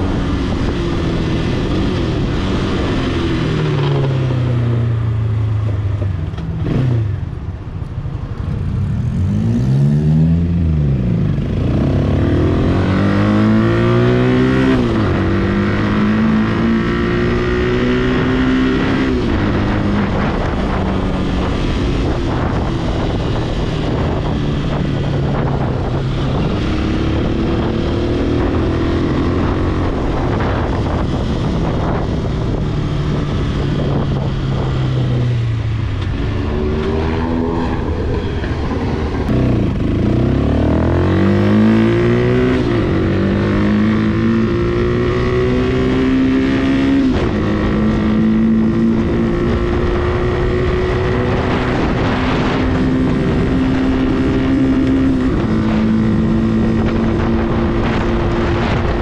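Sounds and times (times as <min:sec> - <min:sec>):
motorcycle engine revving: 0:00.0 - 0:07.6, 0:08.8 - 0:59.0.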